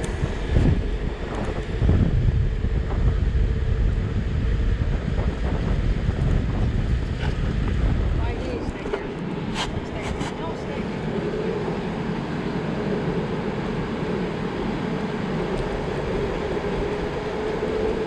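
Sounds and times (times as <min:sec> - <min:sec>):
wind and surf hiss: 0:00.0 - 0:18.0
wind buffeting microphone: 0:00.0 - 0:18.0.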